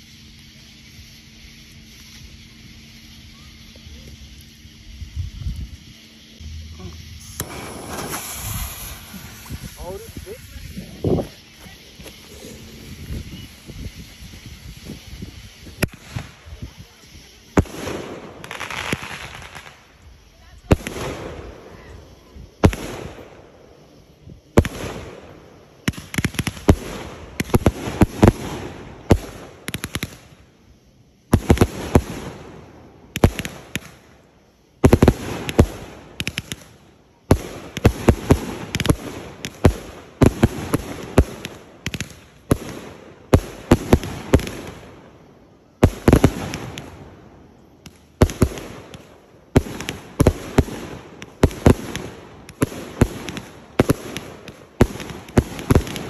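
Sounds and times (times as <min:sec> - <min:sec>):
fireworks bangs and bursts: 0:05.6 - 0:23.8, 0:24.4 - 0:30.6, 0:31.2 - 0:56.0.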